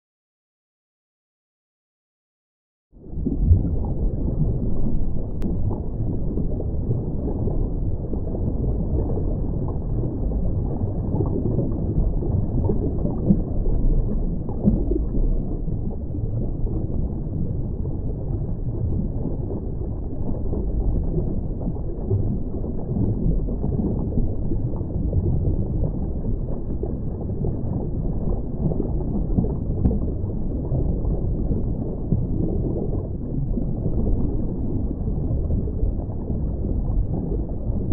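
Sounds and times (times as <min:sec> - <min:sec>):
underwater rumble and rush: 0:03.0 - 0:37.9.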